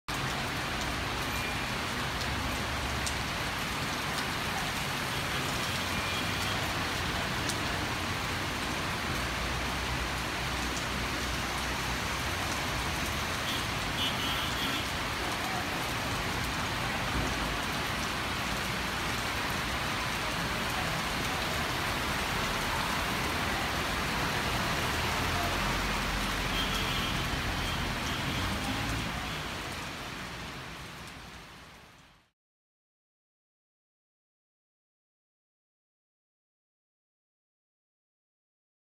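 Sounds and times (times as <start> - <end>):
heavy rain falling: 0.1 - 32.3.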